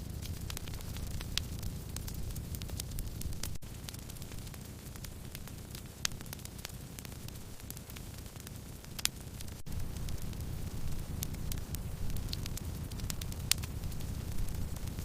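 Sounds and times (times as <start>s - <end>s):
fire pops: 0.0s - 15.0s
low steady rumble: 0.0s - 15.0s
wood fire crackling: 0.0s - 15.0s.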